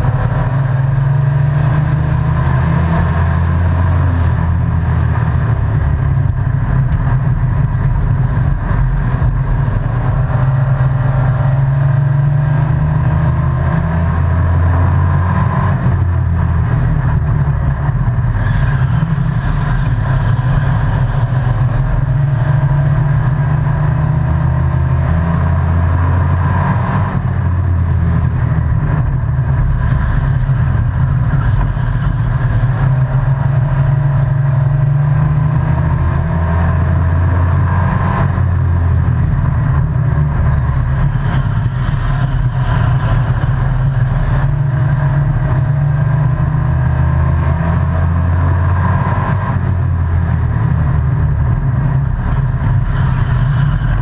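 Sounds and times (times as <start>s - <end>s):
truck engine running hard: 0.0s - 54.0s.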